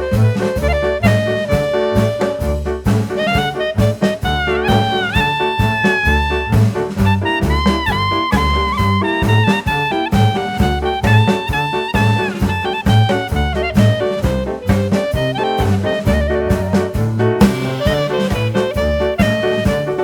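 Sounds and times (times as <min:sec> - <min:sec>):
upbeat swing jazz with brass: 0:00.0 - 0:20.0.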